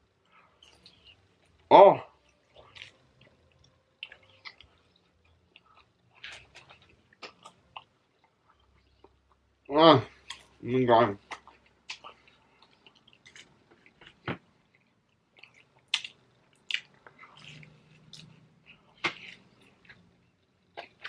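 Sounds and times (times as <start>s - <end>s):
wet chewing with mouth clicks: 0.3s - 1.6s, 2.2s - 9.5s, 11.2s - 21.0s.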